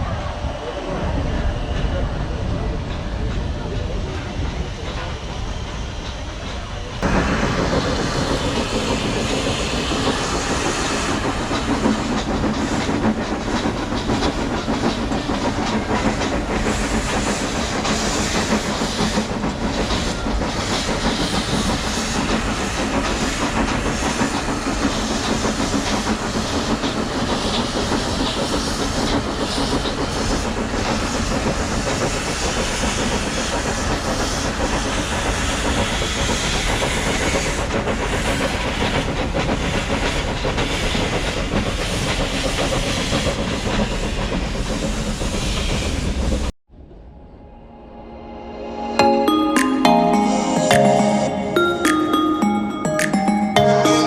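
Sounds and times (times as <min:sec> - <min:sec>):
train wheels clattering on rails: 0:00.1 - 0:46.5.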